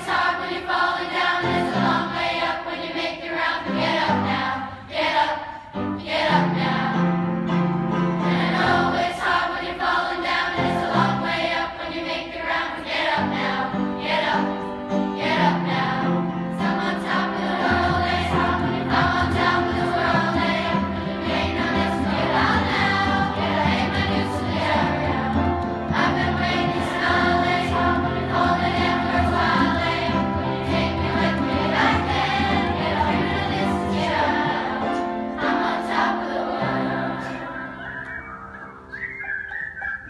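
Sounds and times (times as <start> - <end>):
children's choir singing: 0.0 - 40.0
upright piano accompaniment: 0.0 - 40.0.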